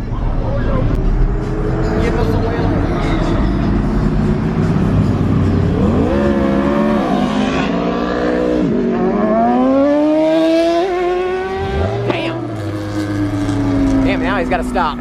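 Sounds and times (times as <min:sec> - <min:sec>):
vehicle engine revving hard: 0:01.5 - 0:14.2.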